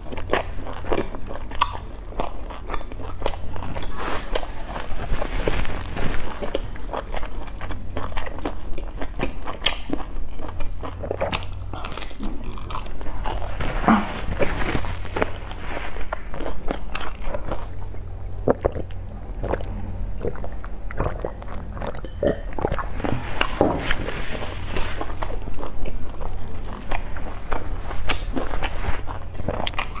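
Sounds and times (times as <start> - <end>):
chewing with wet mouth smacks: 0.0 - 30.0
steady low hum: 0.0 - 30.0.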